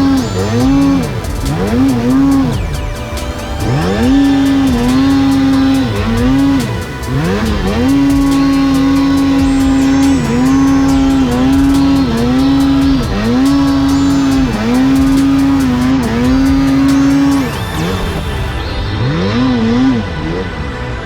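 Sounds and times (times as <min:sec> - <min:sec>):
snowmobile engine revving: 0:00.0 - 0:20.7.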